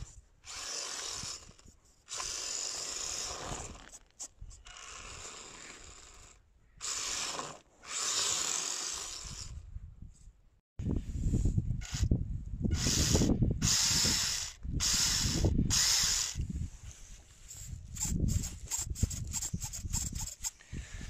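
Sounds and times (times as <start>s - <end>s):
toy car motor whirring: 0.0s - 9.6s, 11.8s - 16.5s, 17.5s - 20.6s.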